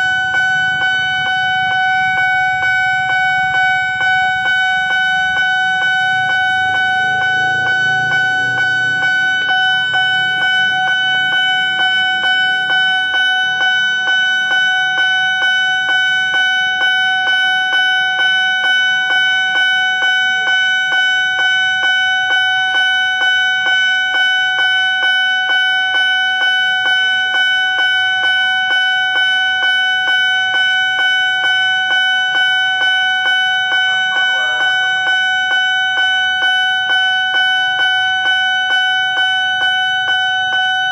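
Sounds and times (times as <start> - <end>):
level crossing warning bell: 0.0 - 40.9.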